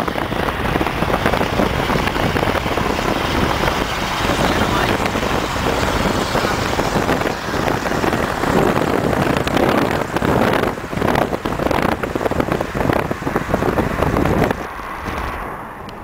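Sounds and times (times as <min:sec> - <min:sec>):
car engines driving: 0:00.0 - 0:16.0
wind buffeting microphone: 0:00.0 - 0:16.0.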